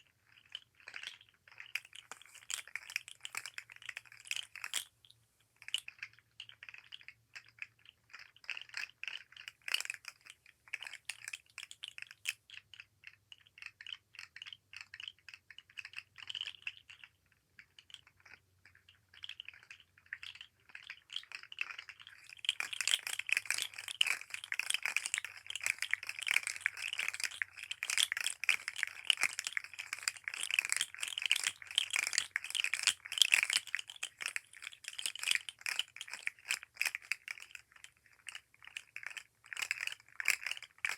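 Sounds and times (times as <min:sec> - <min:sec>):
plastic toy segments clicking: 0:05.7 - 0:40.9.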